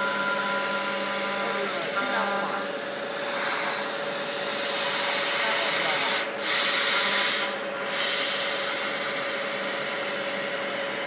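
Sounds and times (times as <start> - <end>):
router spindle tone: 0.0 - 11.0
cutter rasping material: 0.2 - 11.0.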